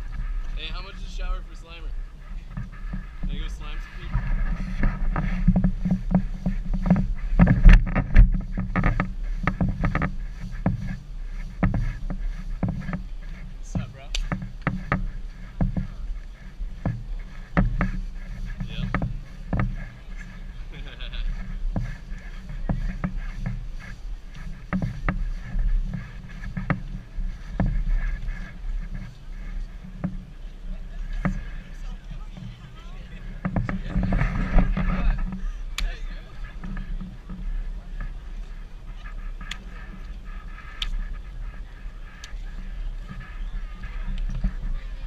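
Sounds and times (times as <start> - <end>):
faint steady whine: 0.0 - 45.0
steady low rumble: 0.0 - 45.0
camera pole knocking and scraping: 1.9 - 45.0.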